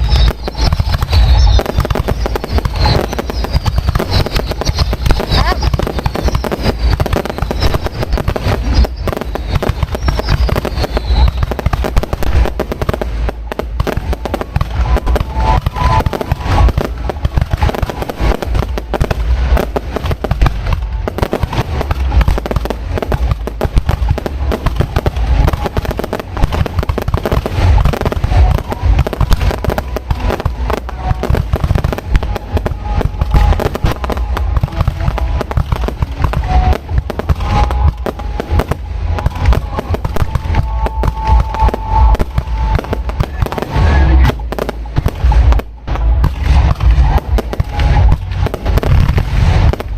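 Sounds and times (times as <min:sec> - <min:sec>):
falling firework whistles: 0:00.0 - 0:45.6
deep firework booms: 0:00.0 - 0:49.9
firework shell bursts and crackling: 0:00.0 - 0:49.9.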